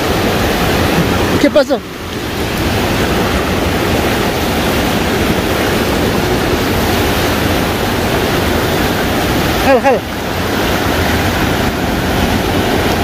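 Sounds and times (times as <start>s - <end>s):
river rushing through rapids: 0.0s - 13.0s.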